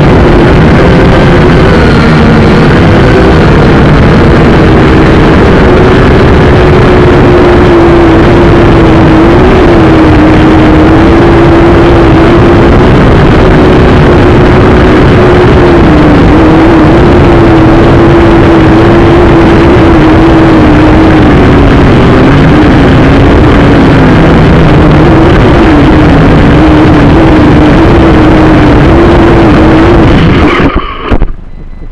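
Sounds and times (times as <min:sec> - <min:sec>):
quadcopter motors buzzing: 0:00.0 - 0:31.3.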